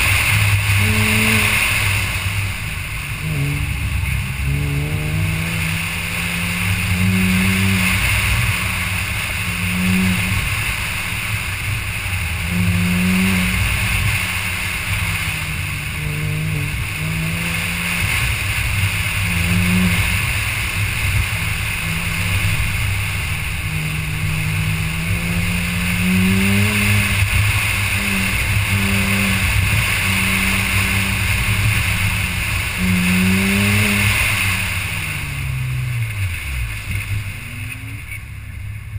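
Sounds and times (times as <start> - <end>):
car engine revving: 0.0 - 38.9
steady rushing noise: 0.0 - 38.9.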